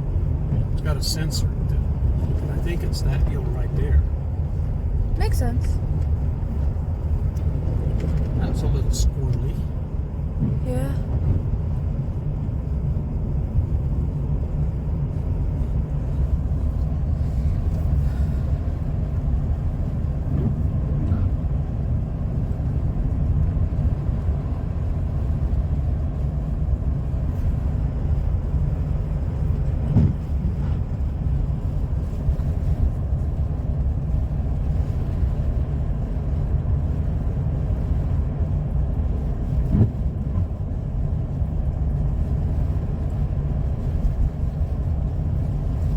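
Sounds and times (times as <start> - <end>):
car cabin road rumble: 0.0 - 45.9.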